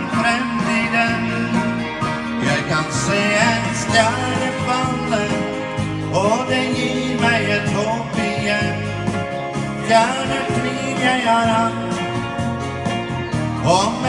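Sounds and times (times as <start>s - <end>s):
acoustic guitar country music: 0.0s - 14.0s
sliding melody line: 0.0s - 14.0s.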